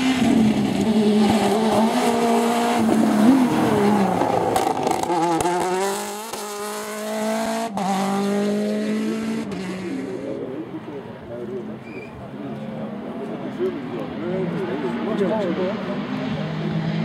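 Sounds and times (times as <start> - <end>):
rally car engine passing at speed: 0.0 - 11.0, 12.4 - 17.0.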